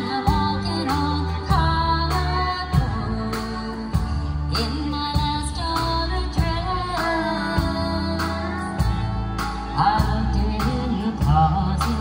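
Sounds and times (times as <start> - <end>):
country band playing: 0.0 - 12.0
woman singing: 0.0 - 12.0.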